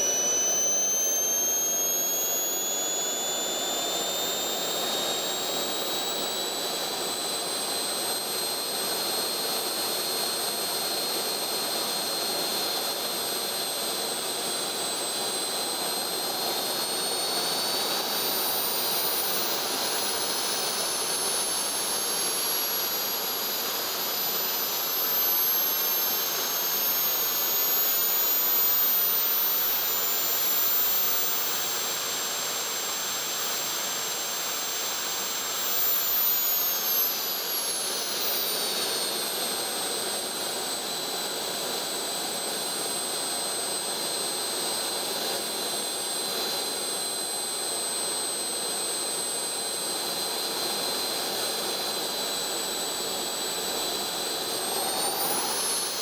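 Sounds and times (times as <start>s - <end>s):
turbojet engine whine: 0.0s - 56.0s.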